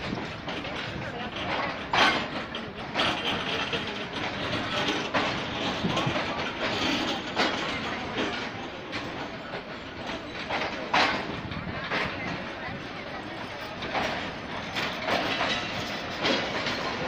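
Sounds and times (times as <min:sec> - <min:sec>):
train wheels rumbling on rails: 0:00.0 - 0:17.0
wheels clicking over rail joints: 0:00.0 - 0:17.0.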